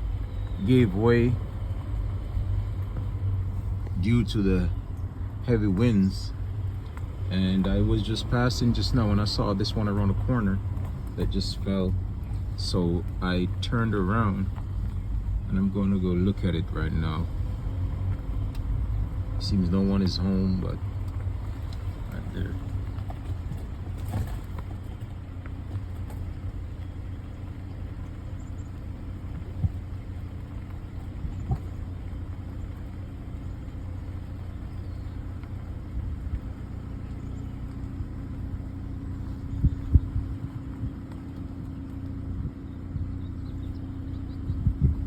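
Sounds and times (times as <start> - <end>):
car engine rumbling: 0.0 - 45.0.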